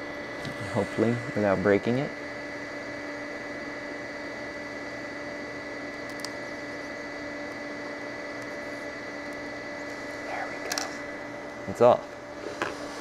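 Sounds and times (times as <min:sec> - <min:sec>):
hot-air station blowing: 0:00.0 - 0:13.0.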